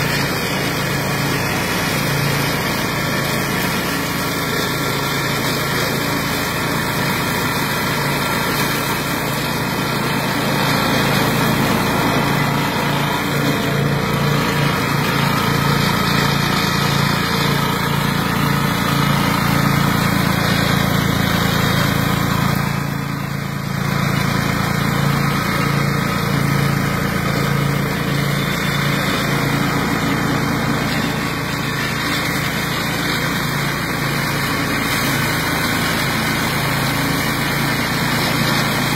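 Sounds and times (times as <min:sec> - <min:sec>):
flail mower running: 0:00.0 - 0:38.9.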